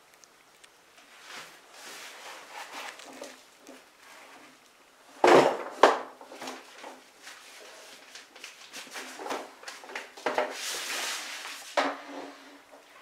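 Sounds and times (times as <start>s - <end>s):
faint steady hum: 0.0s - 13.0s
rustling: 0.0s - 13.0s.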